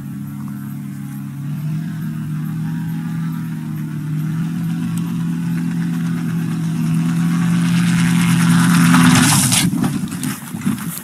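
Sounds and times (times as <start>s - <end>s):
gyroplane engine running: 0.0s - 11.0s
rotor scraping the ground: 0.0s - 11.0s.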